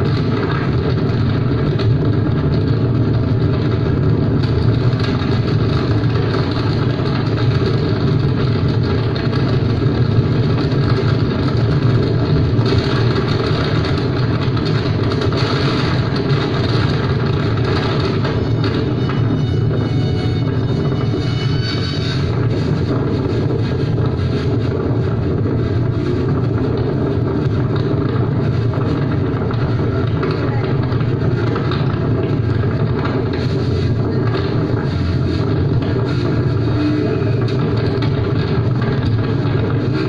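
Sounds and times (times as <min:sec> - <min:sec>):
speedboat engine running: 0:00.0 - 0:40.0.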